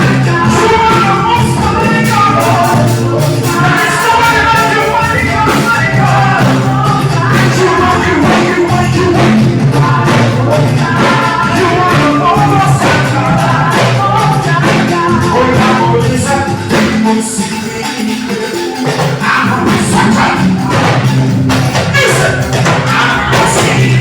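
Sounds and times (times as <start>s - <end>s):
live band with singers: 0.0s - 24.0s
percussion beat: 0.0s - 24.0s.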